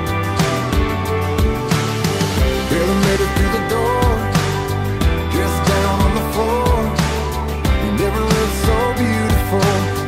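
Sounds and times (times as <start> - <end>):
instrumental country-pop music: 0.0 - 10.0.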